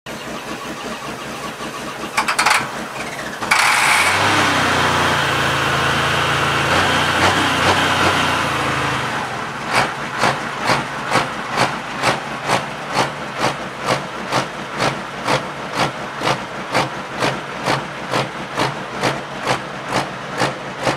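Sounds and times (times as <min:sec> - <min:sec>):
diesel engine running: 0:00.1 - 0:20.9.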